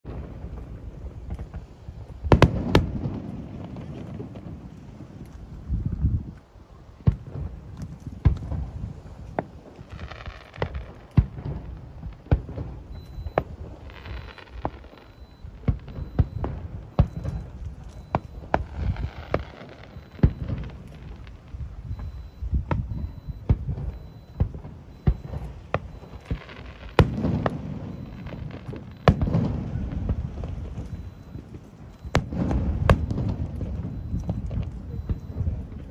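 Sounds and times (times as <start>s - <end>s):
fireworks bangs: 0.0s - 35.9s.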